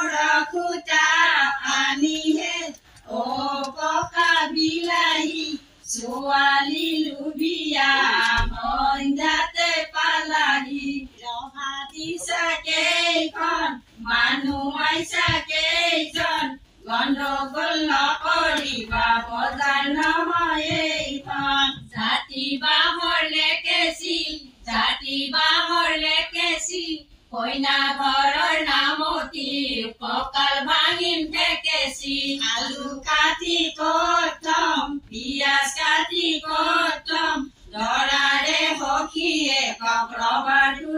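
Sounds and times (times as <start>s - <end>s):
women singing unaccompanied: 0.0s - 40.9s.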